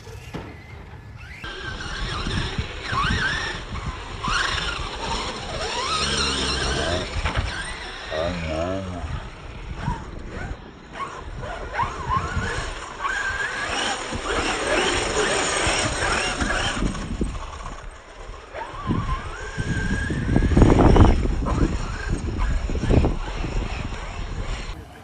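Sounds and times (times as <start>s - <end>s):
rc car motors whining: 0.0s - 25.0s
rough rumble: 0.0s - 25.0s.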